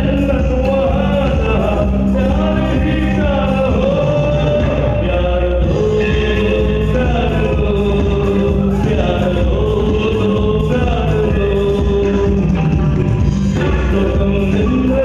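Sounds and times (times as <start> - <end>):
live band playing: 0.0 - 15.0
man singing long notes: 0.0 - 15.0.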